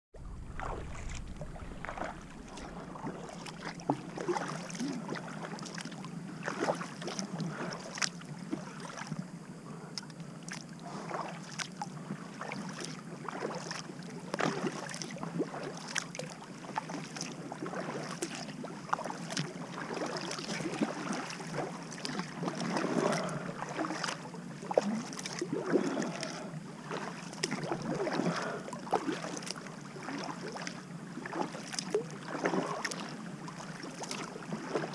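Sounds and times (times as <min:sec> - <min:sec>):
water rippling along hull: 0:00.1 - 0:34.9
paddle splashing in water: 0:00.2 - 0:34.9.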